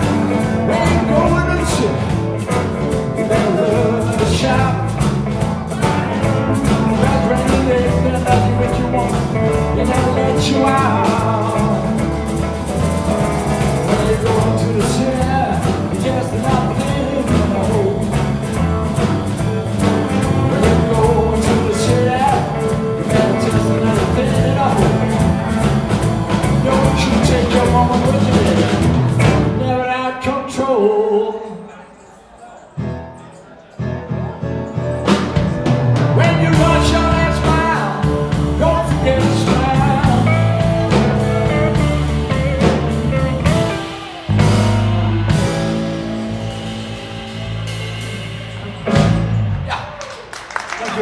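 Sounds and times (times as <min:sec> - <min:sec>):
blues band playing: 0:00.0 - 0:31.3, 0:32.8 - 0:51.0.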